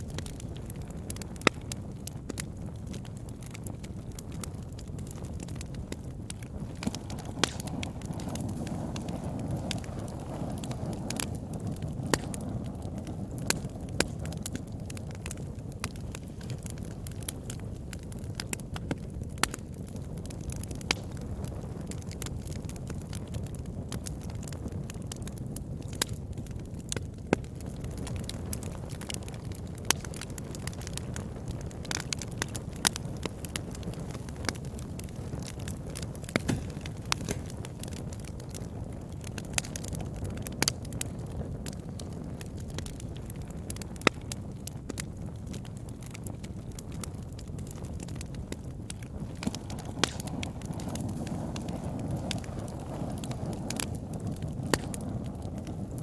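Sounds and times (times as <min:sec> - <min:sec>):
low rumble of flame: 0:00.0 - 0:56.0
wood crackling and popping: 0:00.0 - 0:56.0.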